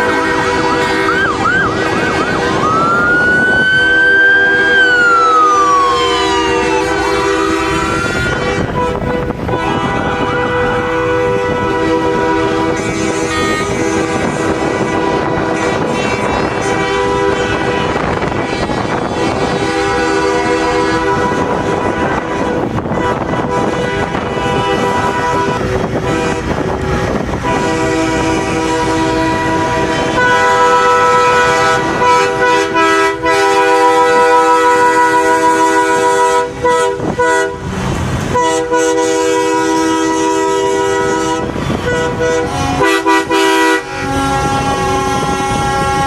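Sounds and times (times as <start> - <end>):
truck horn tones: 0.0 - 37.7, 38.3 - 46.0
emergency vehicle sirens wailing: 0.0 - 46.0.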